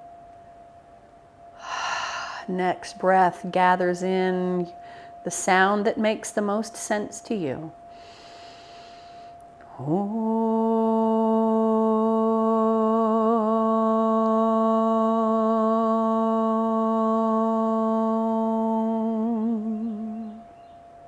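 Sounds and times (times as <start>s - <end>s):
woman humming sustained note: 0.0s - 21.0s.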